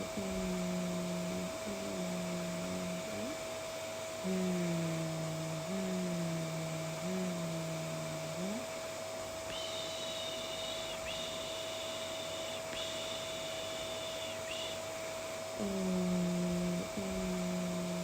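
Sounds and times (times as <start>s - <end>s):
person droning hum: 0.0s - 18.0s
vacuum cleaner humming: 0.0s - 18.0s.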